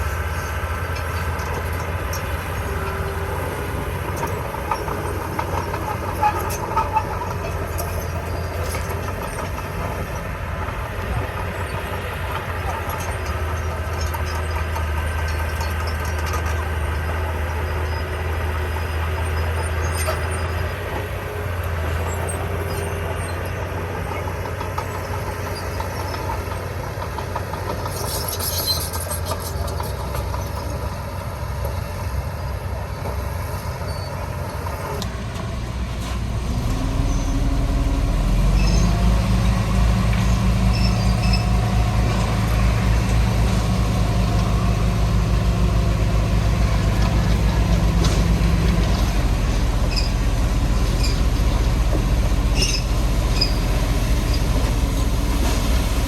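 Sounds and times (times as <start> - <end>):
diesel engines of heavy machinery: 0.0 - 56.0.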